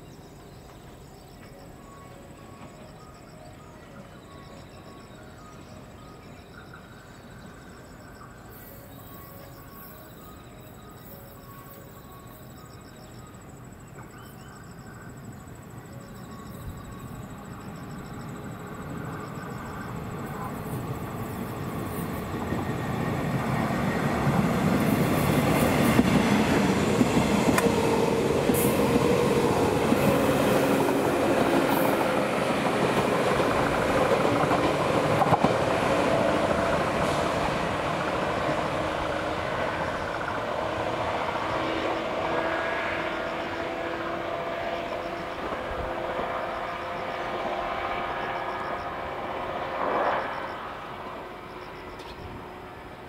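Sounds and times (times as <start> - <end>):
electric train whine passing: 0.0 - 53.0.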